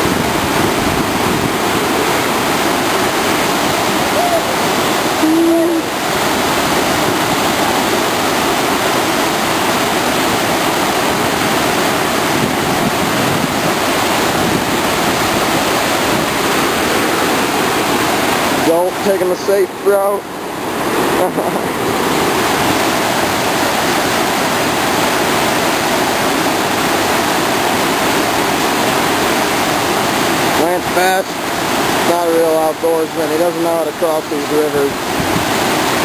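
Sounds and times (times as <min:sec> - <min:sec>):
whitewater cascading over boulders: 0:00.0 - 0:36.0.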